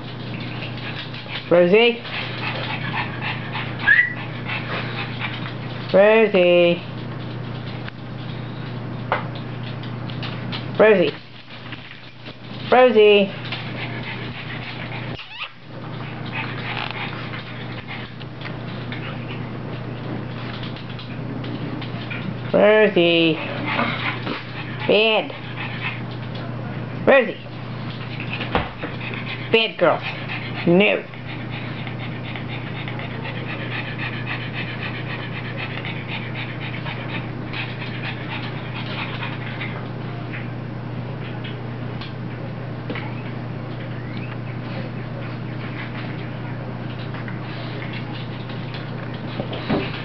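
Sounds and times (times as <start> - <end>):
dogs scuffling: 0.0 - 50.0
steady low hum: 0.0 - 50.0.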